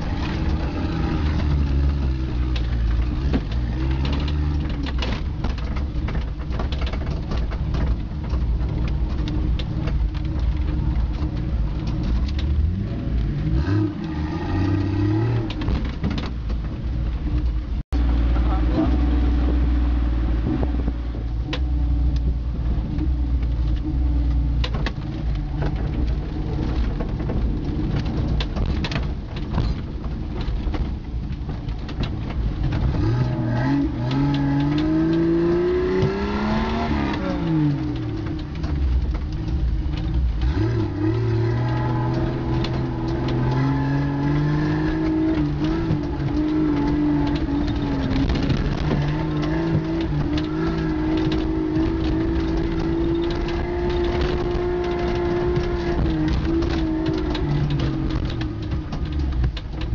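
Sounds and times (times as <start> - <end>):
car engine revving: 0.0 - 59.9
vehicle knocks and rattles: 0.0 - 59.9.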